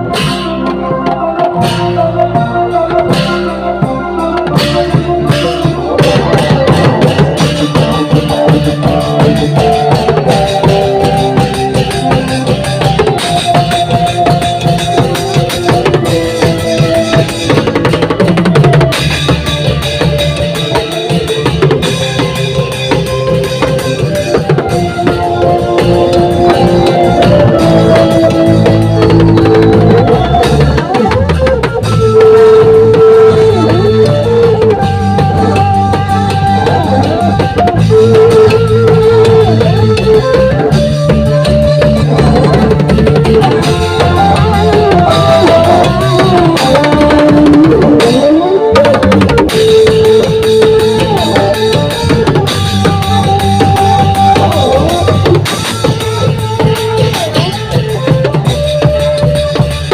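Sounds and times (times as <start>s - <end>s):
melody: 0.0s - 59.8s
drumming: 0.0s - 59.9s.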